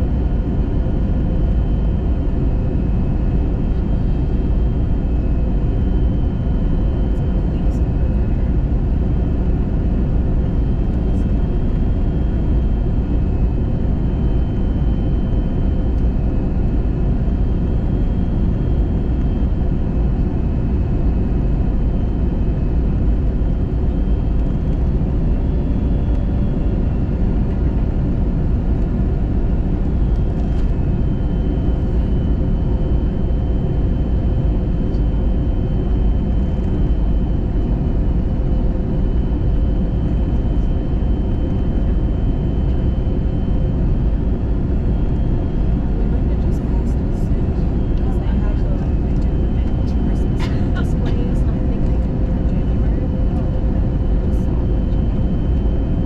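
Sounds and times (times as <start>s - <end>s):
engines and rushing air roar: 0.0s - 56.0s
faint steady whines: 0.0s - 56.0s.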